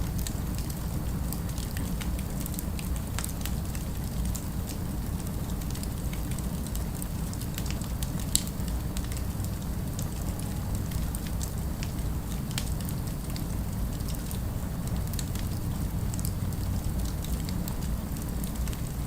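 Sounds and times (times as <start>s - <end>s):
fireplace fire crackling and popping: 0.0s - 19.0s
low rumble of fire: 0.0s - 19.0s.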